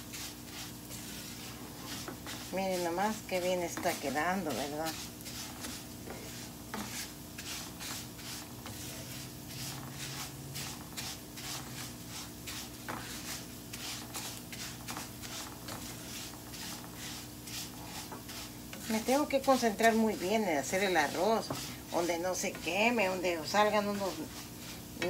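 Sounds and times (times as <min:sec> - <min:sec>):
spoon scraping rice in frying pan: 0:00.0 - 0:25.0.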